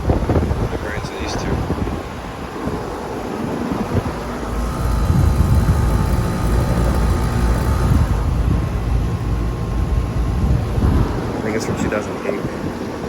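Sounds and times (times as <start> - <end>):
air conditioner hum and fan: 0.0 - 13.0
wind on microphone: 0.0 - 13.0.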